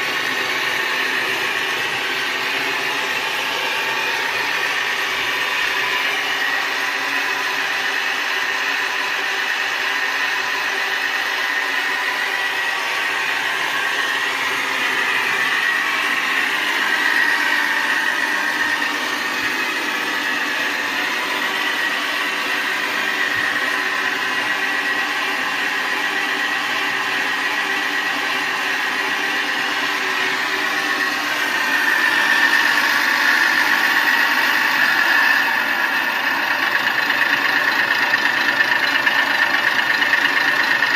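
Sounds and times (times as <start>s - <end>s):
simulated engine sound from speaker: 0.0s - 40.9s.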